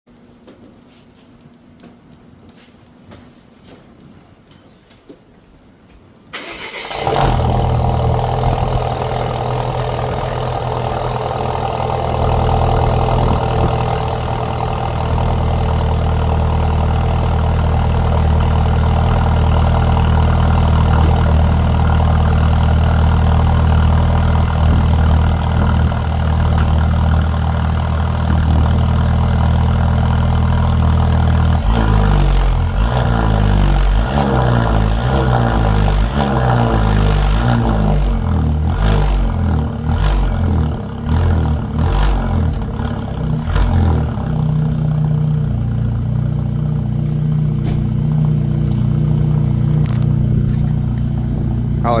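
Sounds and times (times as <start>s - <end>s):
car engine starting and idling: 6.3s - 52.0s.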